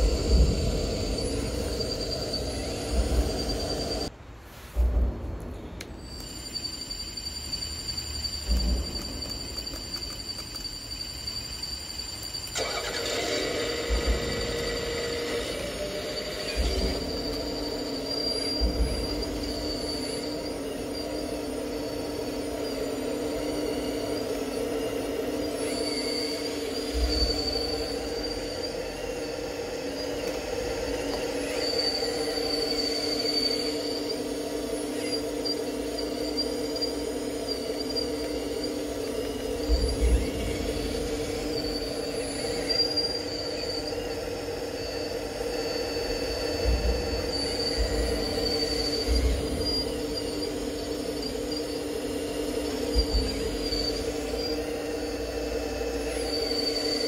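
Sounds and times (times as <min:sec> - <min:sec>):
model excavator motor humming: 0:07.6 - 0:57.0.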